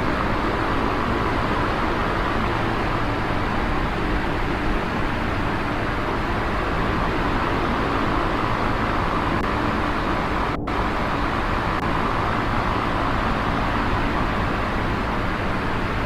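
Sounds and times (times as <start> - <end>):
steady dense noise: 0.0 - 16.0.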